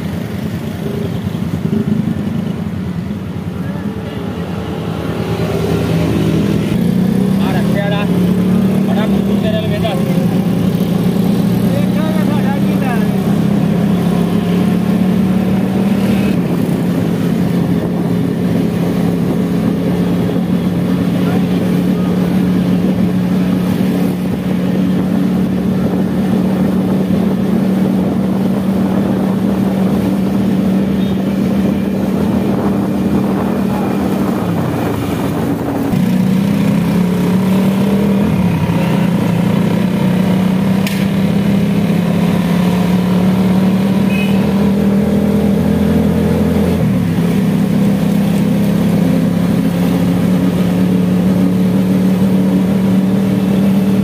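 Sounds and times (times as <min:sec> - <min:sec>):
motorcycle rickshaw engine running: 0:00.0 - 0:54.0.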